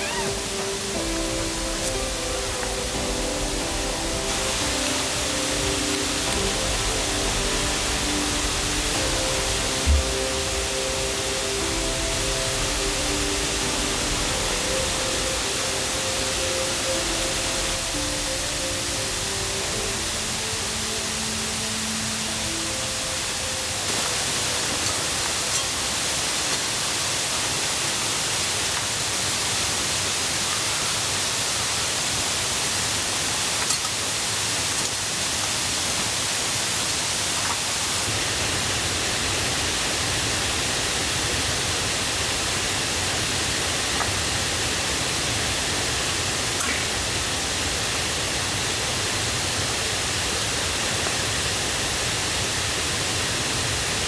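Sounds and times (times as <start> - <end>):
river and waterfall rushing: 0.0 - 54.0.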